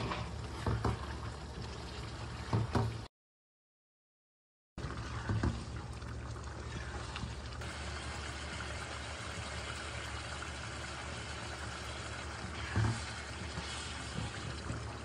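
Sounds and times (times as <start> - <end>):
gravy bubbling in a wok: 0.0 - 3.1, 4.8 - 15.0.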